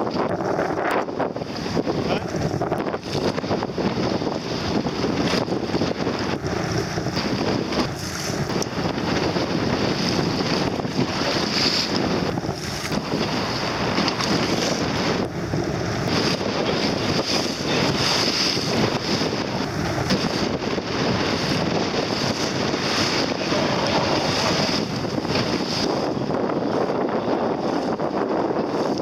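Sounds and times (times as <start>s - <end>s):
water rushing past boat: 0.0s - 29.0s
wind buffeting microphone: 0.0s - 29.0s.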